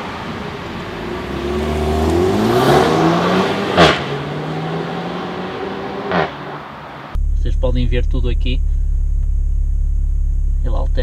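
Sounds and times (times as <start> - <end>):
car engine accelerating hard: 0.1 - 11.0.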